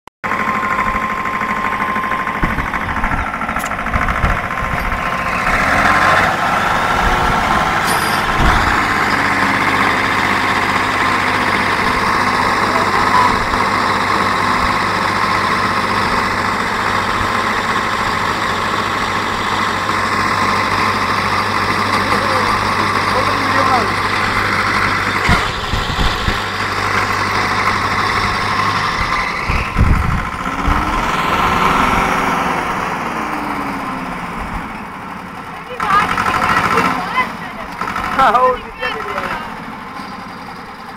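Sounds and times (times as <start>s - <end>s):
tractor engine running: 0.2s - 40.9s.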